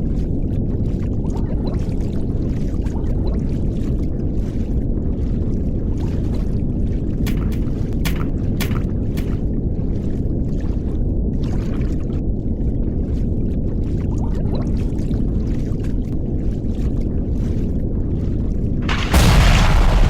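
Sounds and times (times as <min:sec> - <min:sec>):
muffled underwater rumble and gurgling: 0:00.0 - 0:19.4.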